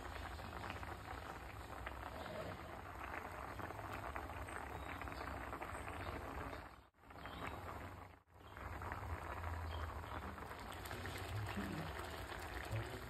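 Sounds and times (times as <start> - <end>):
gravy bubbling in a pan: 0.0 - 13.0.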